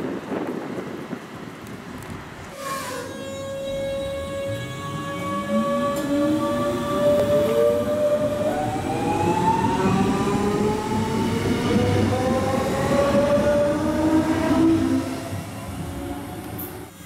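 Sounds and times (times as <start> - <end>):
rising electric whines of train: 0.0 - 17.0
wheels rumbling on rails: 0.0 - 17.0.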